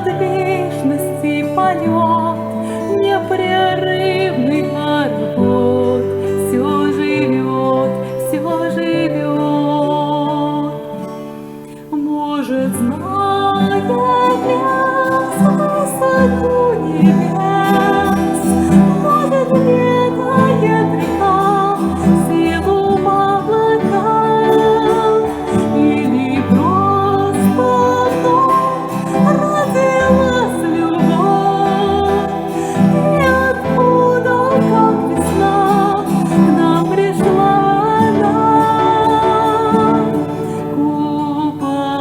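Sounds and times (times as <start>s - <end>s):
acoustic guitar: 0.0s - 42.0s
woman singing: 0.0s - 42.0s.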